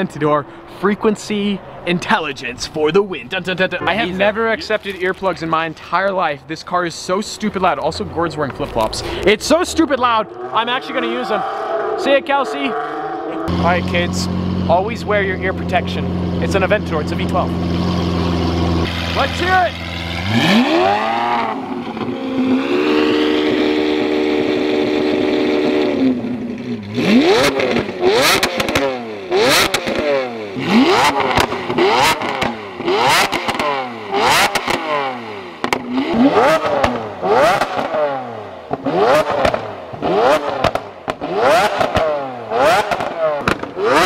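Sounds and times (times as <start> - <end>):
exhaust crackles and pops: 2.0 - 10.9, 13.3 - 44.0
sports car engine revving: 7.0 - 44.0.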